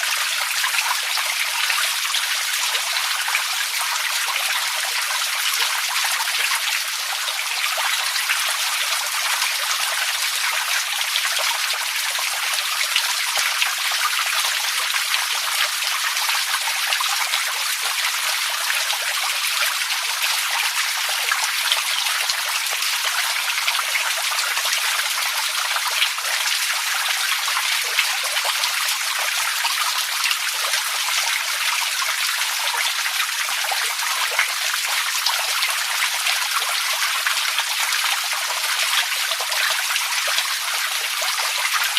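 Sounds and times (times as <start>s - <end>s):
running water trickling and splashing: 0.0s - 41.9s.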